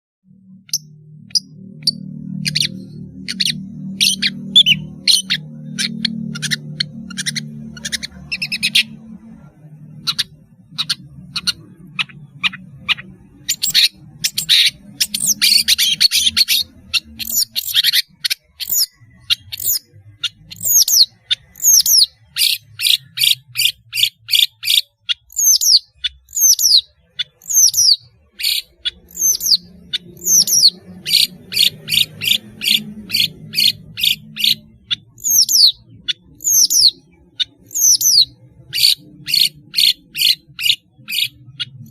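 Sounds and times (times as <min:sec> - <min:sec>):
bird chattering song: 0:00.4 - 0:41.9
bird sharp down-slurred calls: 0:00.6 - 0:41.9.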